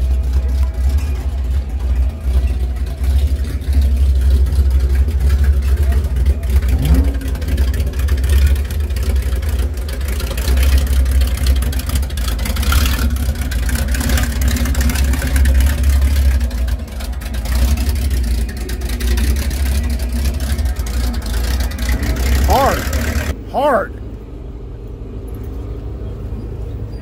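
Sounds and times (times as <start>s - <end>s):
car engine rumbling roughly: 0.0s - 27.0s.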